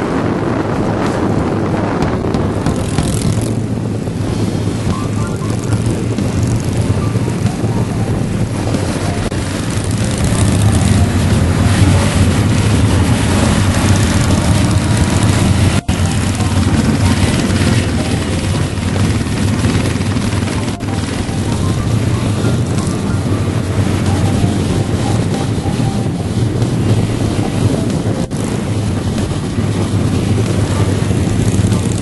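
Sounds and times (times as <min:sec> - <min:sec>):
motorcycle engine running: 0:00.0 - 0:32.0
wind rushing over microphone: 0:00.0 - 0:32.0.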